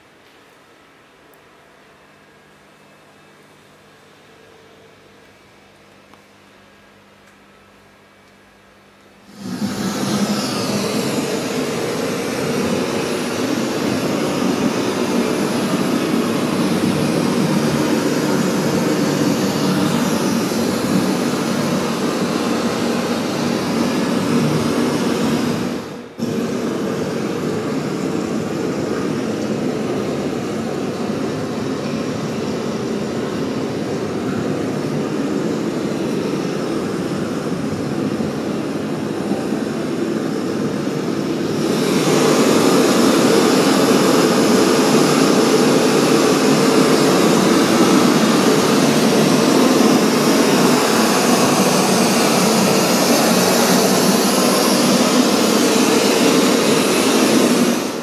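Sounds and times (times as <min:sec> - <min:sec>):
loud rushing noise: 0:09.2 - 0:58.0.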